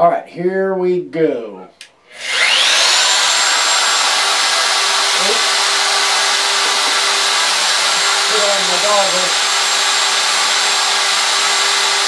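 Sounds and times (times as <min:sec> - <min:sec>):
router whining: 0:02.0 - 0:12.0.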